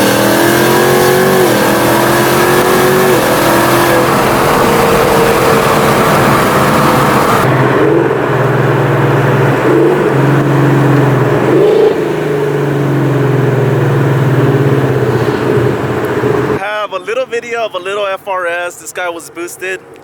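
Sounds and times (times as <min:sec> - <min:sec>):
car exhaust droning: 0:00.0 - 0:16.6.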